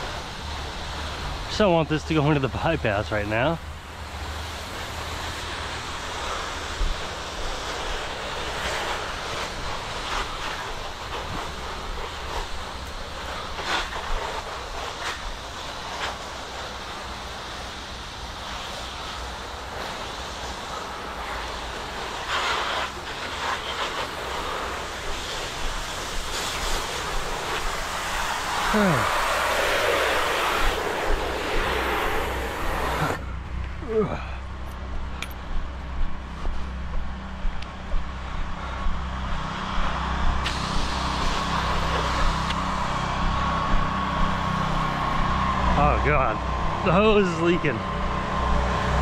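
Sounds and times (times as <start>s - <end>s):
water spraying onto siding: 0.0s - 34.2s, 34.8s - 49.0s
pressure washer engine hum: 0.0s - 49.0s.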